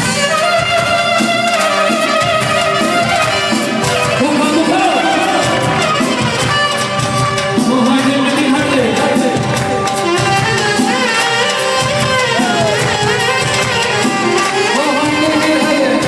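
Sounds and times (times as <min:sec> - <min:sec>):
crowd clapping along: 0:00.0 - 0:16.0
live folk music with beat: 0:00.0 - 0:16.0.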